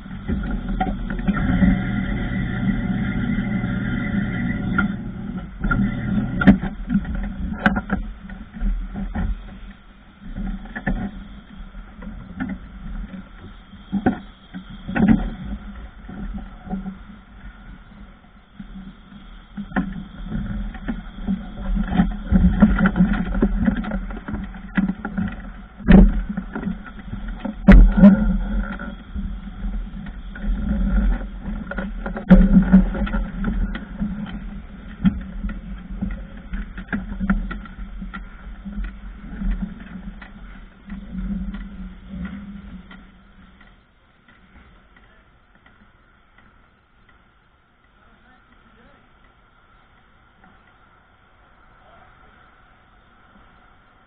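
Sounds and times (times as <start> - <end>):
low rumble: 0.0 - 54.0
steady hum: 0.0 - 54.0.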